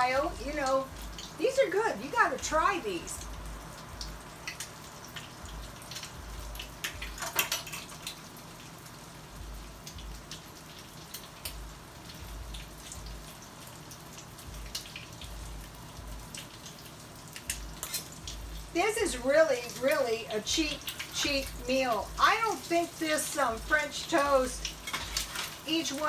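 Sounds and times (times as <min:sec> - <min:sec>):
food sizzling in a skillet: 0:00.0 - 0:26.0.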